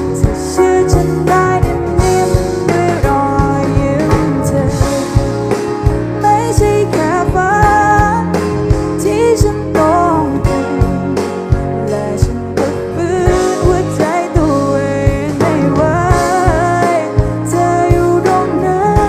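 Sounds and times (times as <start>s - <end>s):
song with singing guitar and drums: 0.0s - 19.0s.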